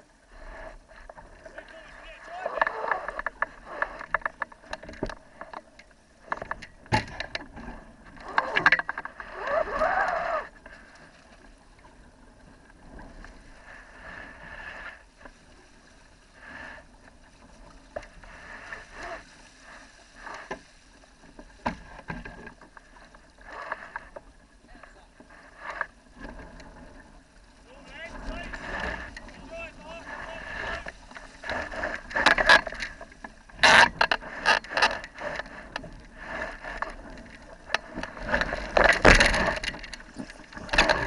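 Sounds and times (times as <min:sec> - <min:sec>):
water lapping against boat hull: 0:00.0 - 0:41.0.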